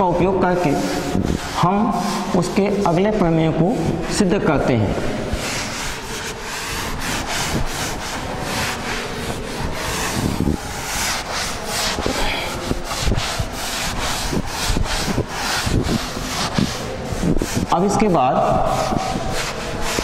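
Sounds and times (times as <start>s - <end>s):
duster rubbing on blackboard: 0.0s - 20.0s.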